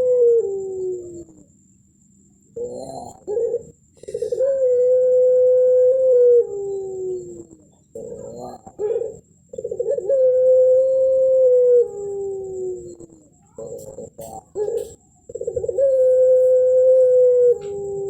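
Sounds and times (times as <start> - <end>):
dove cooing: 0.0 - 1.6, 2.5 - 18.0.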